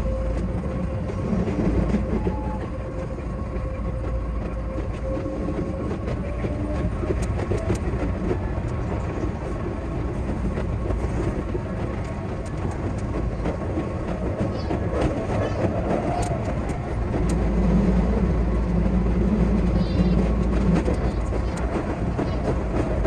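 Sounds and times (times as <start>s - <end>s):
electric train running: 0.0s - 23.0s
rail clicks: 0.0s - 23.0s.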